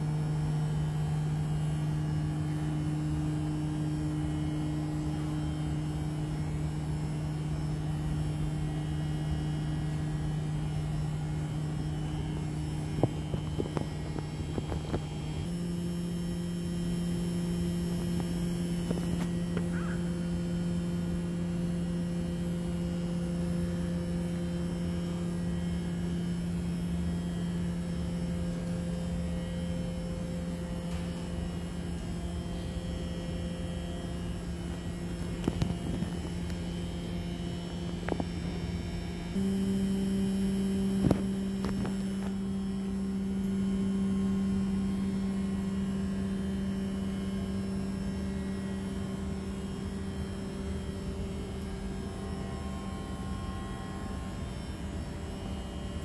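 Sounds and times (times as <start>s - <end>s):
wave driver humming tone: 0.0s - 56.0s.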